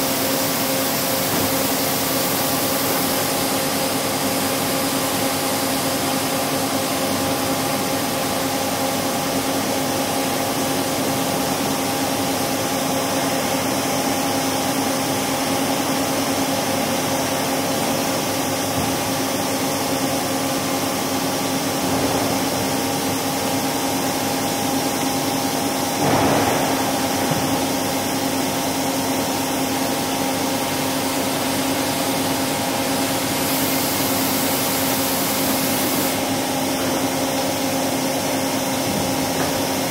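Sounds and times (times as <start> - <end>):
machine shop equipment humming: 0.0 - 39.9.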